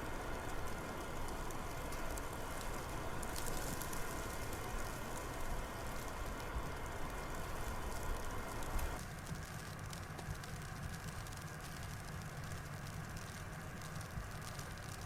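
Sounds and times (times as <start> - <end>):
patter of driven snow: 0.0 - 15.0.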